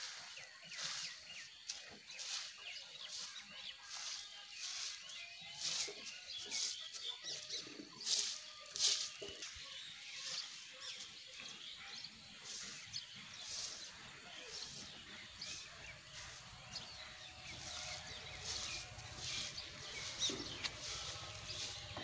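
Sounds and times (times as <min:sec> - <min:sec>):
stick broom swishing and splashing: 0:00.0 - 0:09.5, 0:12.4 - 0:22.0
birds chirping faintly: 0:00.0 - 0:22.0.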